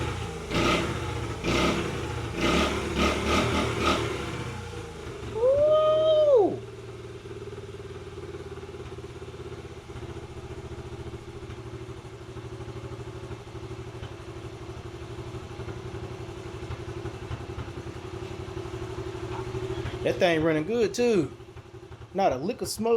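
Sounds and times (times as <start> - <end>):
small engine idling: 0.0 - 22.9.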